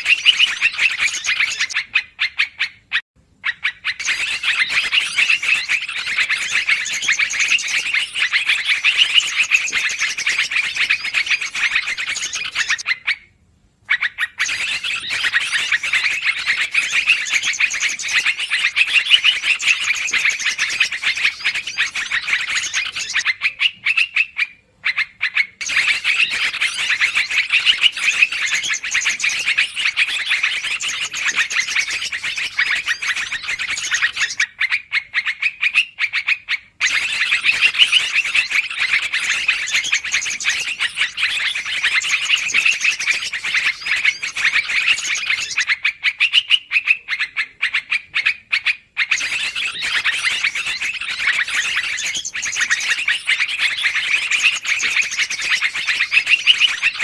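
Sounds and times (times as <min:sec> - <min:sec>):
bulbuls chattering: 0:00.0 - 0:02.3, 0:03.5 - 0:12.9, 0:14.4 - 0:34.4, 0:36.8 - 0:45.8, 0:46.8 - 0:57.0.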